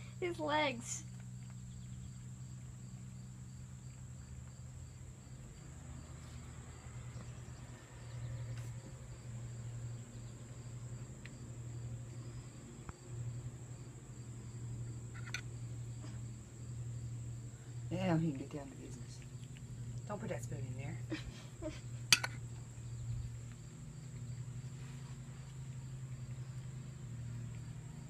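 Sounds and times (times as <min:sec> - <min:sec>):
crickets chirping: 0:00.0 - 0:28.0
high insect drone: 0:00.0 - 0:28.0.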